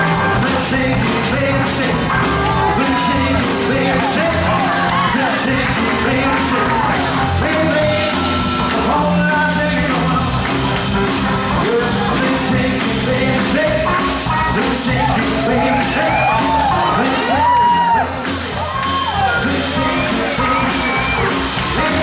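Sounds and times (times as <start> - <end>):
live band playing dance music: 0.0 - 22.0
steady drum beat: 0.0 - 22.0
walking bass line: 0.0 - 22.0.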